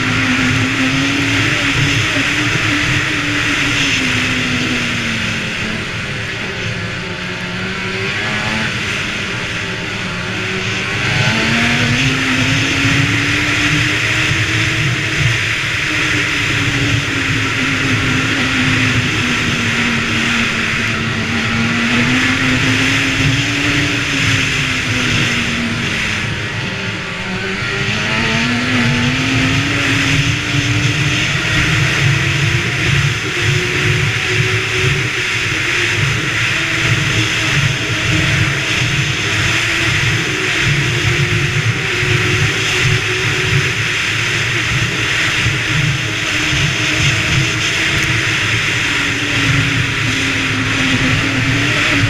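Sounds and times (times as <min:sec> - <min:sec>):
snowmobile engine revving: 0:00.0 - 0:52.0.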